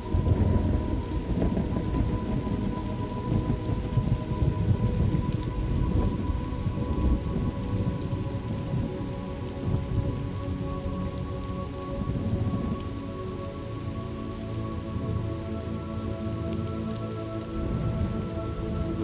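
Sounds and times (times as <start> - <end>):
thunder rumbling: 0.0 - 13.2, 16.5 - 19.0
heavy rain on a surface: 0.0 - 19.0.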